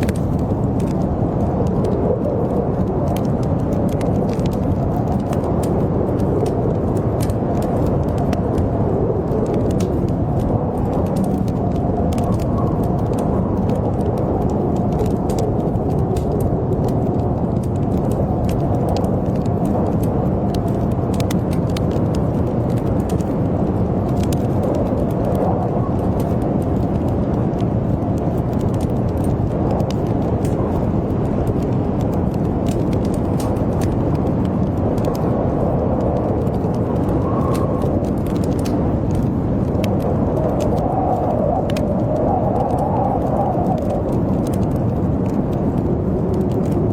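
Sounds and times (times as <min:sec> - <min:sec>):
howling blizzard wind: 0:00.0 - 0:46.9
wood fire crackling: 0:00.0 - 0:46.9.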